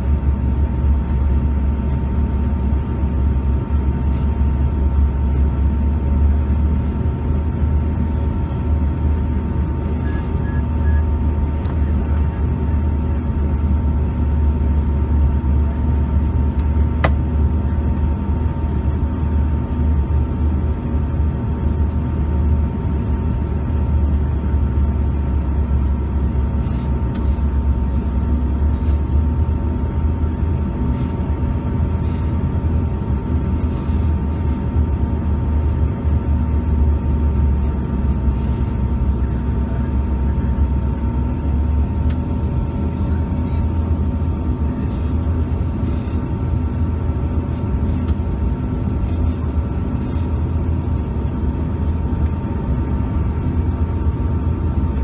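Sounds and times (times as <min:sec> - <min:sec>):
faint steady hums: 0:00.0 - 0:55.0
jet cabin rumble: 0:00.0 - 0:55.0.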